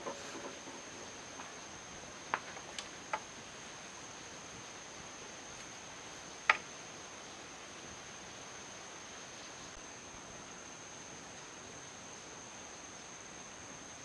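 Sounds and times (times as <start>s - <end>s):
high-pitched insect whine: 0.0s - 14.0s.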